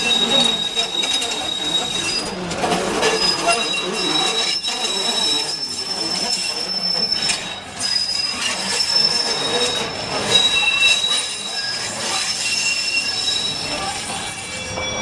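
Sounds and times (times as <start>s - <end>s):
streetcar wheels squealing on rails: 0.0s - 15.0s.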